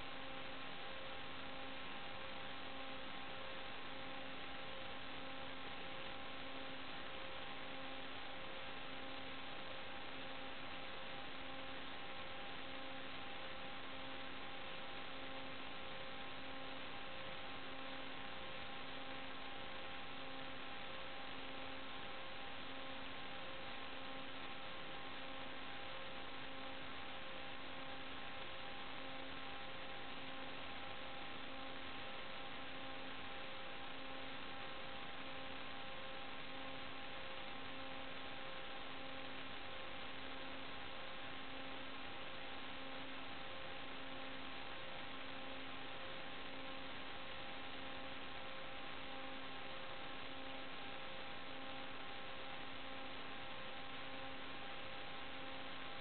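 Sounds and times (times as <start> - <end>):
electronic static hiss and hum: 0.0 - 56.0.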